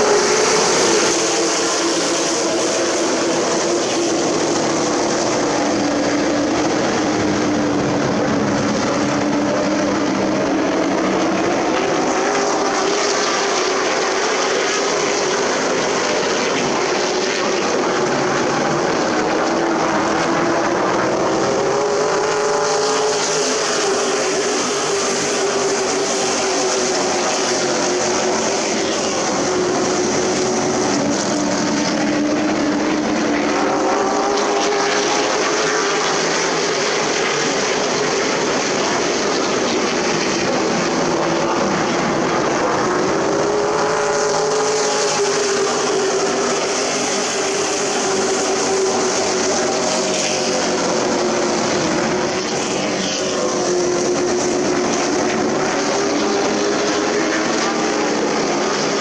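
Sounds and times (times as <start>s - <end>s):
race truck engines passing: 0.0s - 59.0s.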